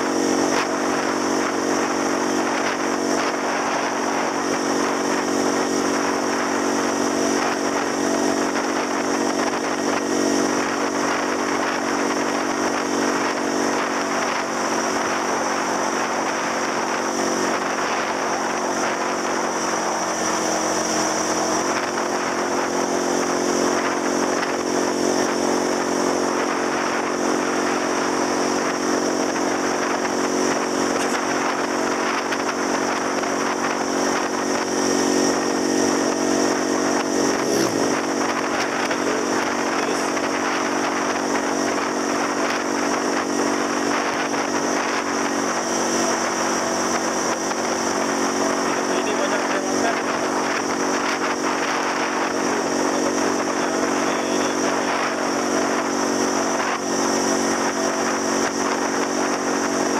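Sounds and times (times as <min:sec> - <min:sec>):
scooter engine running: 0:00.0 - 0:59.9
wind and road noise: 0:00.0 - 0:59.9.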